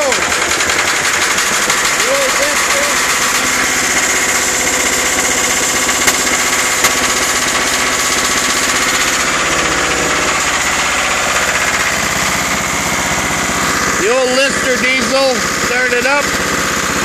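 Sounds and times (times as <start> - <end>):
diesel generator engine running: 0.0 - 17.0.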